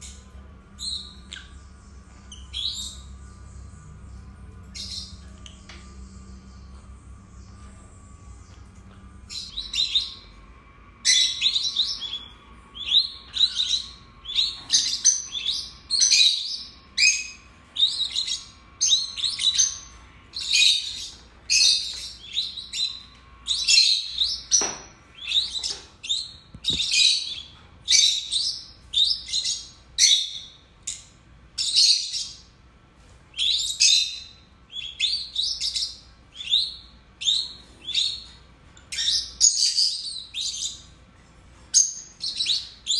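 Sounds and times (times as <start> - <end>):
lovebirds chirping: 0.0 - 32.6, 33.3 - 42.9.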